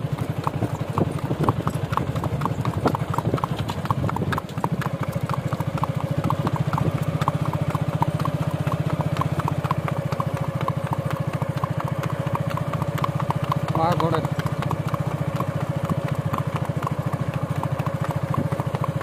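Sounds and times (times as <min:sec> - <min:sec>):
horse hooves clip-clopping on asphalt: 0:00.0 - 0:19.0
motorcycle engine running: 0:00.0 - 0:19.0.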